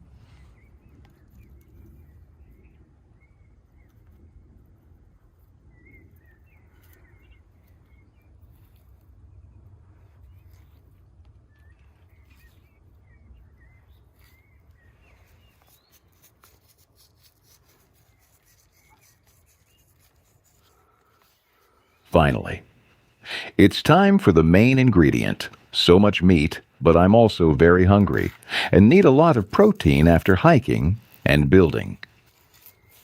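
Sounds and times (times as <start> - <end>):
small birds chirping: 0.2 - 4.6, 5.2 - 33.0.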